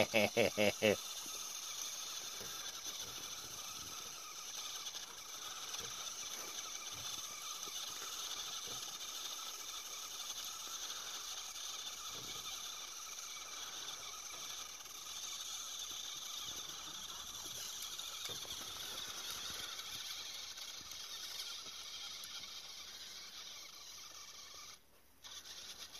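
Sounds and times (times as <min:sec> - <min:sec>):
toy truck electric motor whine: 0:00.0 - 0:25.9.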